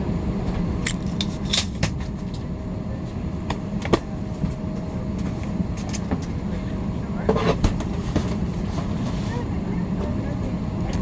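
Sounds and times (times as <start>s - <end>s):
cabin ventilation rumble: 0.0s - 11.0s.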